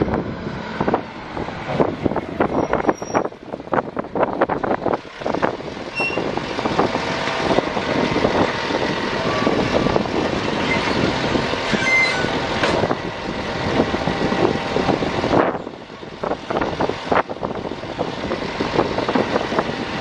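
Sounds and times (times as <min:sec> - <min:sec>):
diesel truck engine running: 0:00.0 - 0:20.0
wind buffeting microphone: 0:00.0 - 0:20.0.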